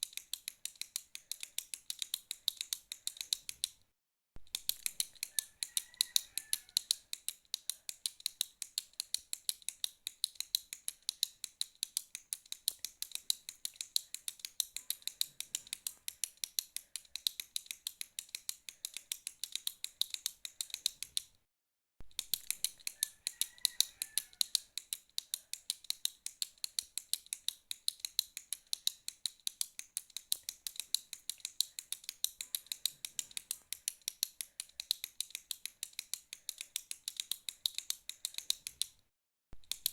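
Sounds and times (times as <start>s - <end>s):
pen clicking: 0.0s - 3.8s, 4.5s - 21.4s, 22.1s - 39.0s, 39.6s - 39.9s.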